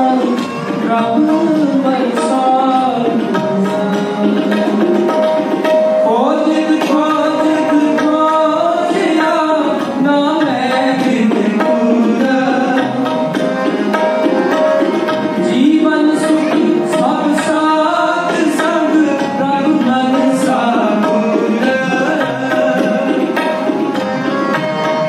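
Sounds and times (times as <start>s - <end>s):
harmonium chords and melody: 0.0s - 25.0s
tabla strokes: 0.0s - 25.0s.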